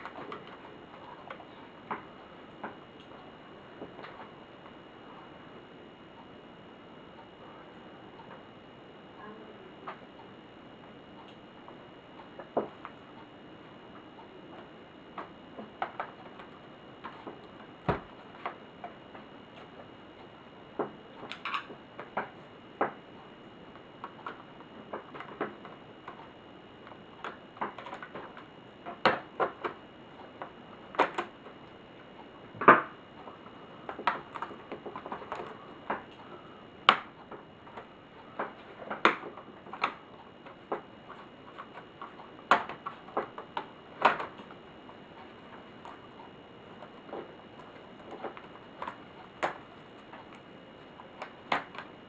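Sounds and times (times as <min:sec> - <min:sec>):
faint high-pitched whine: 0:00.0 - 0:52.0.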